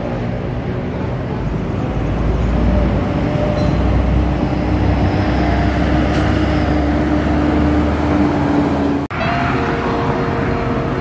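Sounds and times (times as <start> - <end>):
heavy vehicle engine rumble: 0.0 - 11.0.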